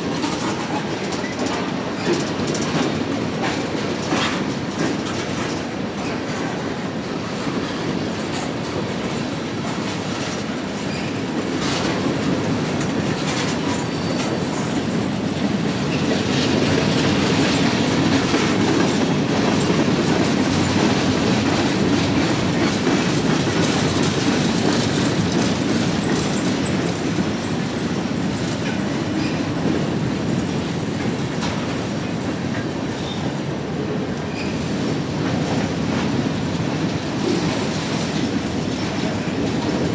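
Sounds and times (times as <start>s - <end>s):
wheels clicking over rail joints: 0.0s - 33.4s, 34.2s - 39.9s.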